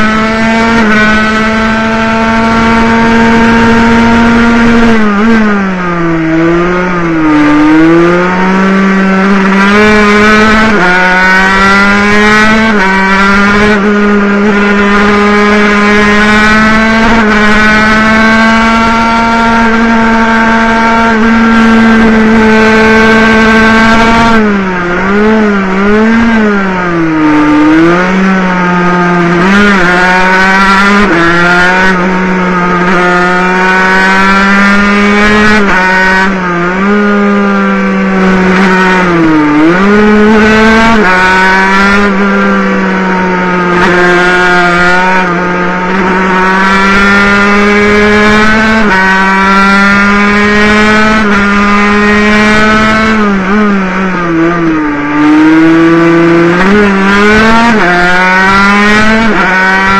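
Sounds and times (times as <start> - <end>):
two-stroke motorcycle engine racing: 0.0 - 59.9.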